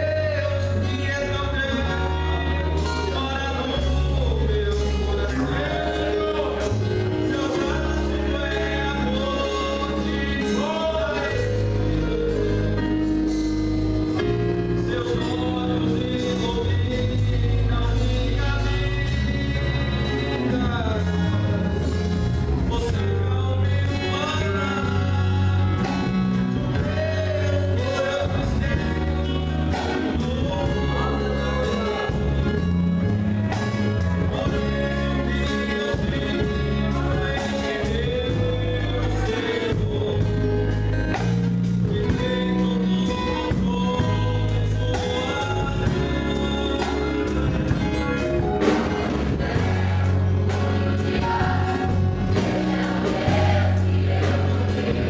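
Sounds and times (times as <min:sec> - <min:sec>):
bass line: 0:00.0 - 0:55.0
vocal group singing gospel: 0:00.0 - 0:55.0.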